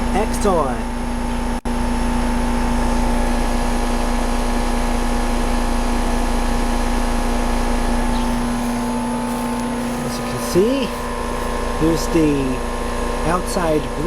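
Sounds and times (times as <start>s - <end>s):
compressor humming: 0.0s - 14.0s
fan rushing air: 0.0s - 14.0s.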